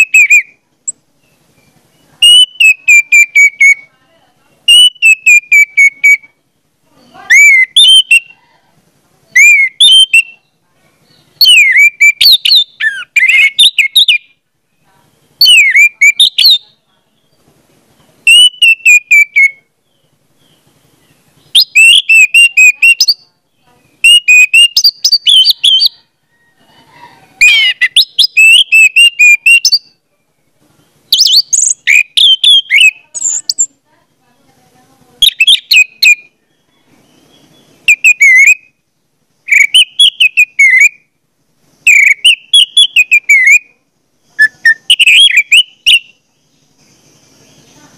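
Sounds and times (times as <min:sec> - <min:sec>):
bird singing: 0:00.0 - 0:47.9.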